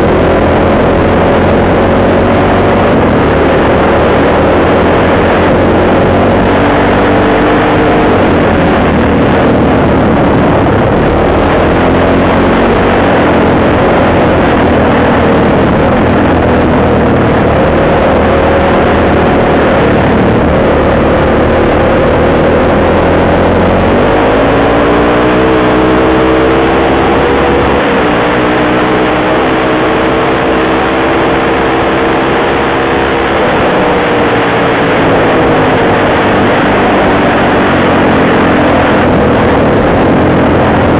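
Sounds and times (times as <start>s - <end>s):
off-road vehicle engine: 0.0s - 40.9s
steady rushing noise: 0.0s - 40.9s.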